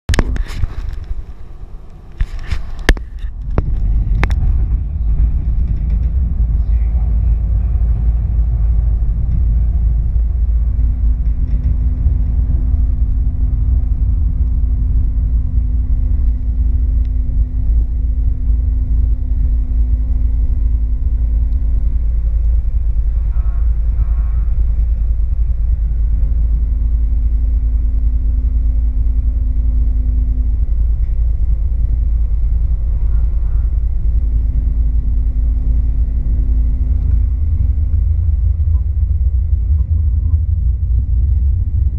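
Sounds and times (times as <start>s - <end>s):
steady low hum: 0.0s - 41.9s
vehicle rumbling along street: 0.1s - 41.9s.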